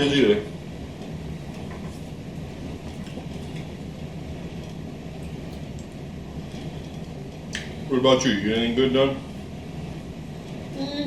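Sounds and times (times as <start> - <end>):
air conditioning hum: 0.0 - 11.0.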